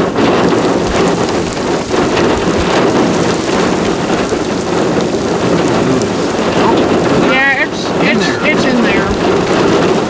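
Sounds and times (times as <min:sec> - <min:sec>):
heavy rain falling: 0:00.0 - 0:10.0
raindrops ticking near microphone: 0:00.0 - 0:10.0.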